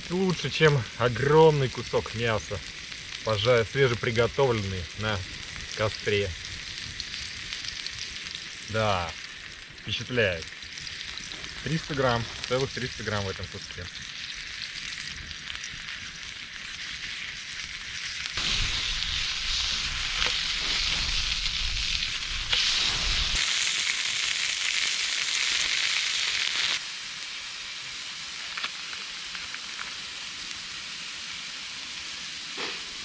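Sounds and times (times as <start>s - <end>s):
faint crackles: 0.0s - 27.4s, 28.2s - 30.7s
steak sizzling: 0.0s - 33.0s.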